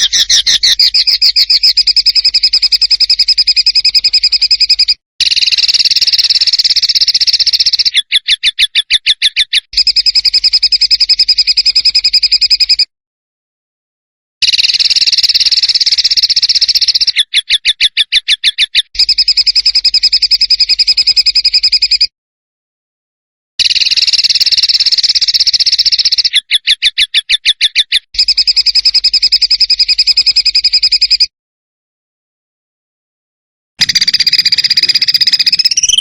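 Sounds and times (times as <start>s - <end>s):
bird rattling song: 0.0s - 12.9s, 14.4s - 22.1s, 23.6s - 31.3s, 33.8s - 36.0s.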